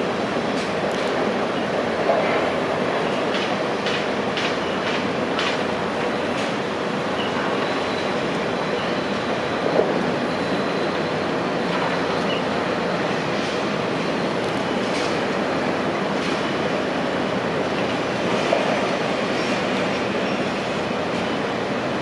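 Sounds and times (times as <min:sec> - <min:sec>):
heavy construction machinery running: 0:00.0 - 0:22.0.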